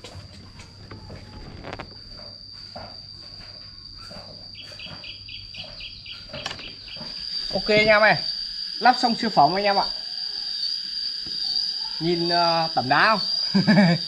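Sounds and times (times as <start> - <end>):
high-pitched insect drone: 0.0 - 14.0
rapid pulsing insect call: 0.0 - 14.0.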